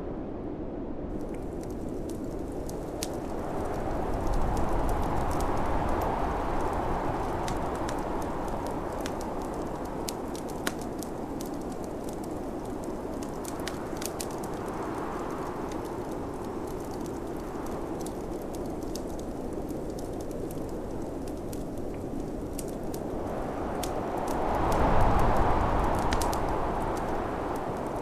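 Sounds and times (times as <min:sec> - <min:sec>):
snowstorm wind gusting: 0:00.0 - 0:28.0
wood fire crackling: 0:01.1 - 0:28.0.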